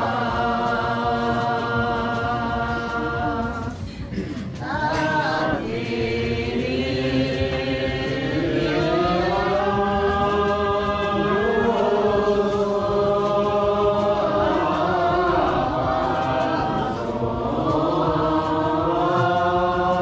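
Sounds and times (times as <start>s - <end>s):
group singing in unison: 0.0s - 20.0s.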